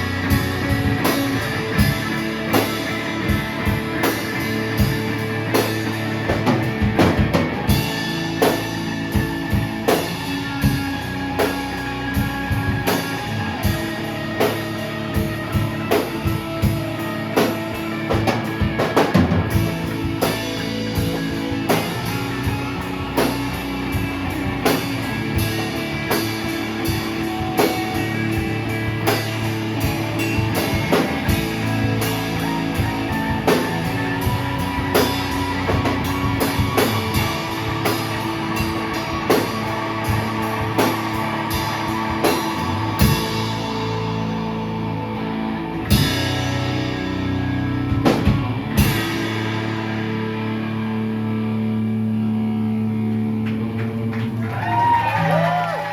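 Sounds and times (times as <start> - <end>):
drum kit beat: 0.0 - 51.6
electric guitars sustained chords: 0.0 - 55.9.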